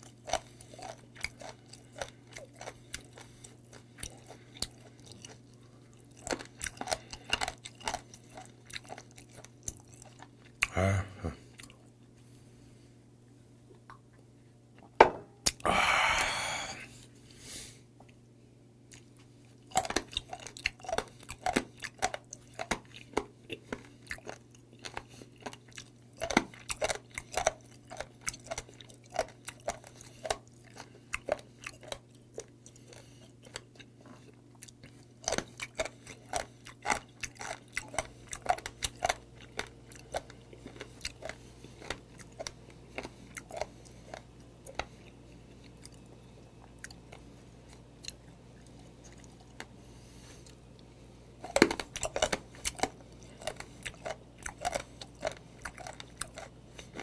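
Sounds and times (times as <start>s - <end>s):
person chewing crunchy food: 0.0s - 12.6s, 14.8s - 18.2s, 18.8s - 57.0s
steady low hum: 0.0s - 57.0s.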